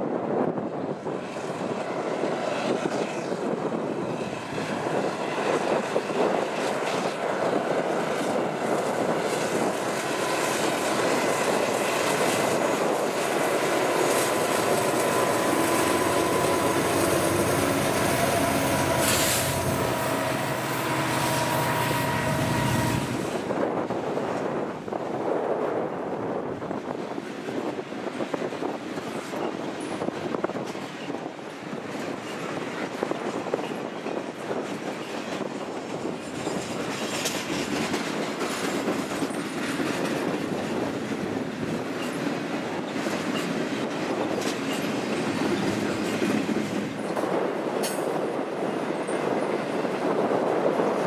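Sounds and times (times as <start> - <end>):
diesel locomotive engines droning: 0.0 - 51.0.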